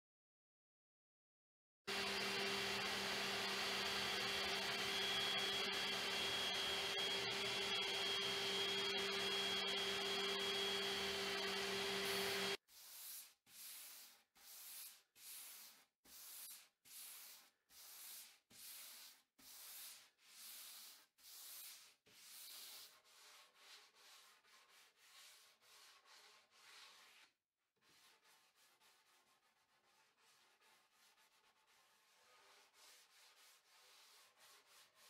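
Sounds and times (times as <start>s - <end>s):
sanding sponge rubbing wood: 1.9s - 35.0s.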